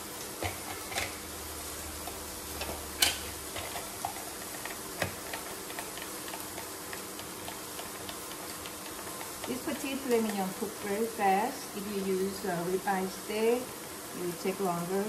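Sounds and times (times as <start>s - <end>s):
steak sizzling in a grill pan: 0.0s - 15.0s.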